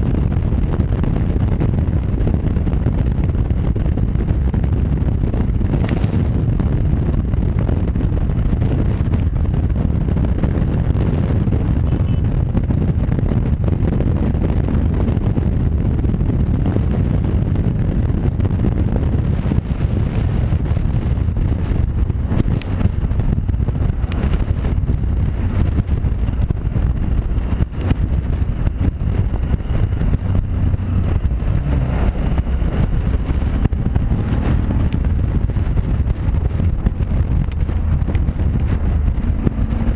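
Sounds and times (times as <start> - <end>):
motorcycle engine: 0.0 - 39.9
wind buffeting microphone: 0.0 - 39.9
wind rush and road noise: 0.0 - 39.9.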